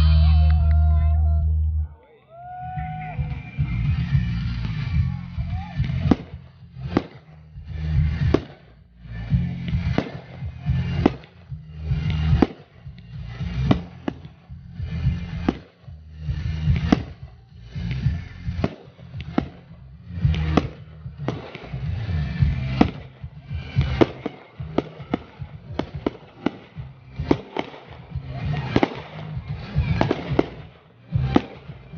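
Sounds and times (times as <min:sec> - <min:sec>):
music playing: 0:00.0 - 0:31.9
fireworks bangs: 0:01.8 - 0:31.9.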